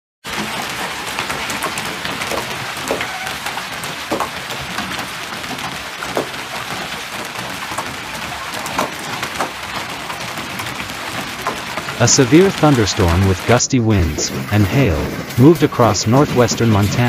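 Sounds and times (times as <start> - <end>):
hailstones striking: 0.2 - 17.0
heavy rain hissing: 0.3 - 17.0.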